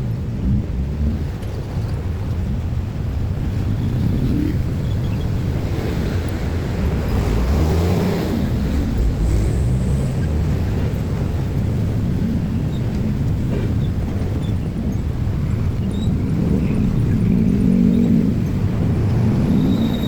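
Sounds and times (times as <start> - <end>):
passing vehicles rumbling: 0.0 - 20.0
wind noise on microphone: 0.0 - 20.0.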